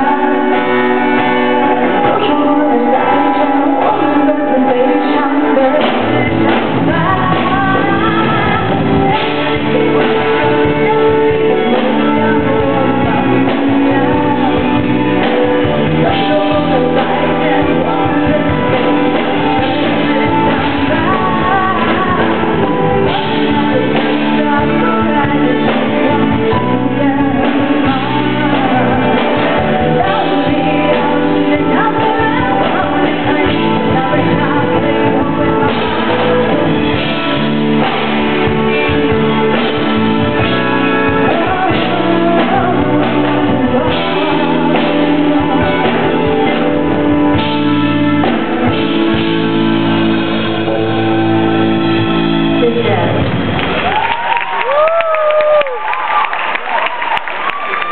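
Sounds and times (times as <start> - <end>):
person singing with band: 0.0 - 53.2
guitar: 0.0 - 57.9.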